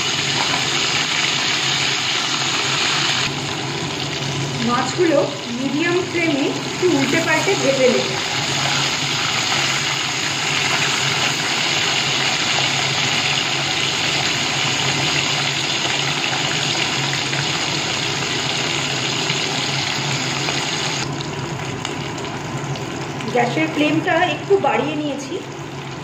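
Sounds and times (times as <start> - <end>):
fish frying in sizzling oil: 0.0 - 26.0.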